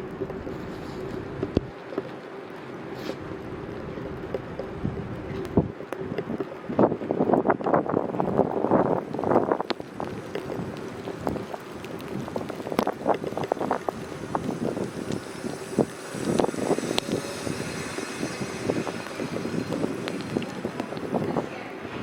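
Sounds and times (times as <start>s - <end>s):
city traffic noise: 0.0s - 22.0s
wind on microphone: 3.2s - 22.0s.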